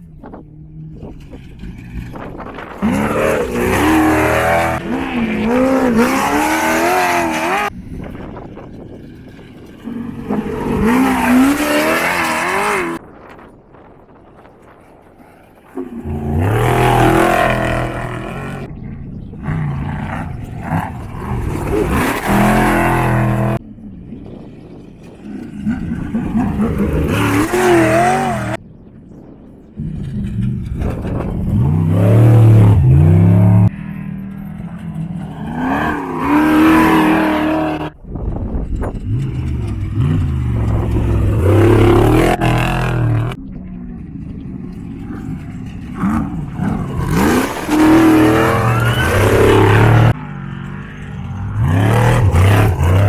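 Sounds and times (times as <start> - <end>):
off-road vehicle engines revving: 0.0 - 13.3, 15.2 - 23.6, 24.8 - 28.6, 29.8 - 53.0.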